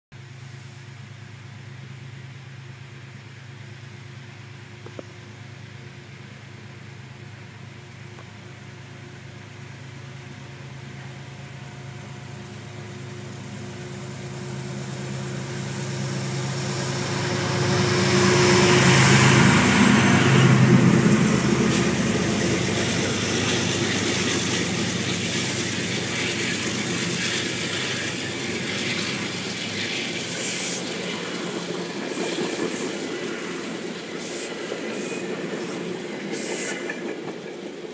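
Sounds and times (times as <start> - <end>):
train coaches rolling past: 0.2 - 37.9
locomotive passing: 0.7 - 37.9.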